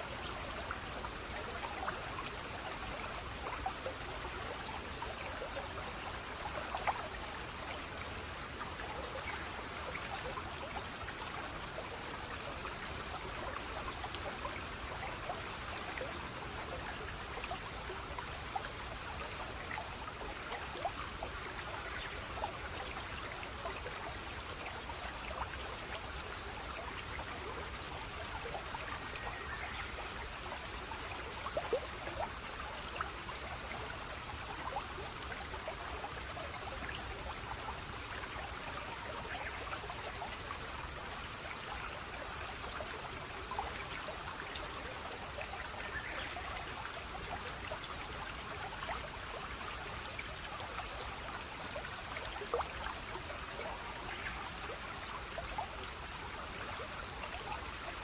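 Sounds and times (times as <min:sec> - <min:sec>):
stream trickling: 0:00.0 - 0:58.0
water drips and splashes: 0:00.0 - 0:58.0.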